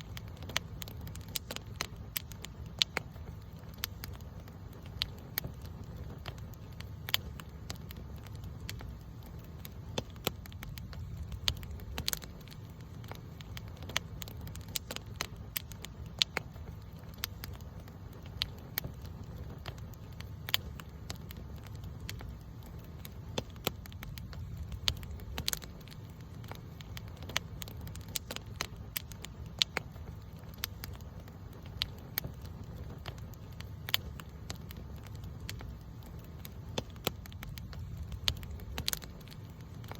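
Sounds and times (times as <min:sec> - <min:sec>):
campfire crackling and popping: 0:00.0 - 0:39.9
low rumble of burning: 0:00.0 - 0:39.9.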